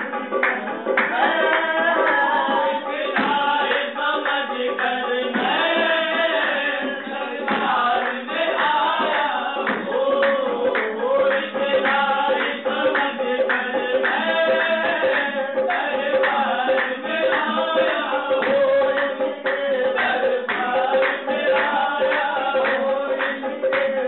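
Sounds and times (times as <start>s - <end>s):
steady drum accompaniment: 0.0s - 24.0s.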